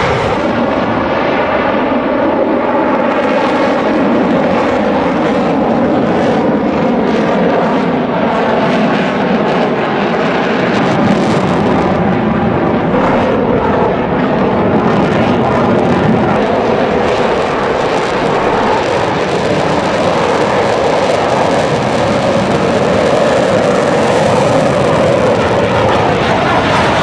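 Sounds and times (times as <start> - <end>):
jet engine roaring: 0.0 - 27.0.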